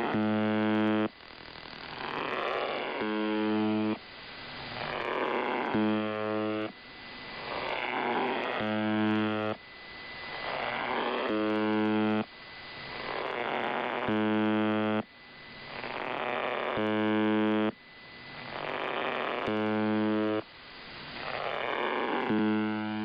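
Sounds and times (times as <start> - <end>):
radio buzz tone: 0.0 - 23.0
radio static hiss: 0.0 - 23.0.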